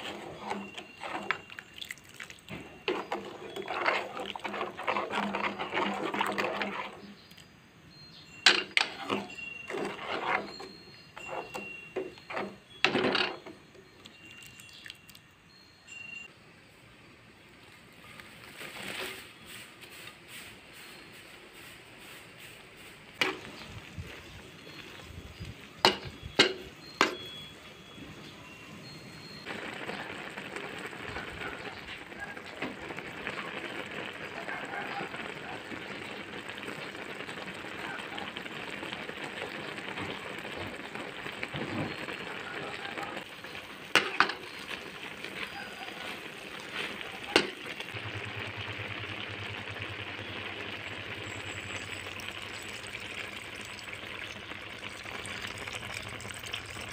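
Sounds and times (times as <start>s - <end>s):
liquid sizzling in a wok: 0.0s - 13.5s, 18.0s - 28.2s, 28.9s - 56.9s.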